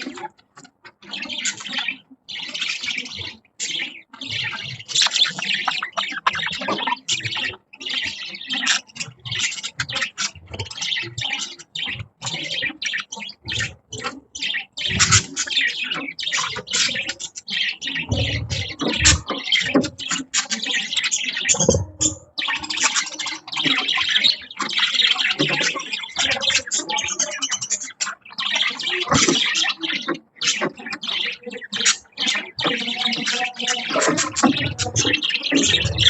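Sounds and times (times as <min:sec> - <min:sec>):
budgerigars chirping and chattering: 0:00.0 - 0:36.0.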